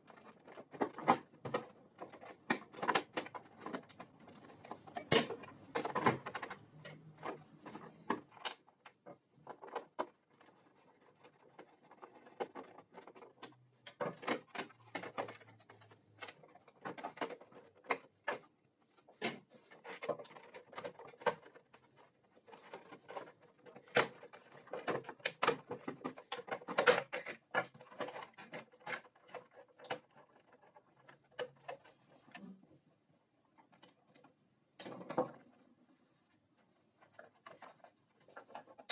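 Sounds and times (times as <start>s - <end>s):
tools and parts clattering: 0.0s - 32.4s
rustling: 0.0s - 38.9s.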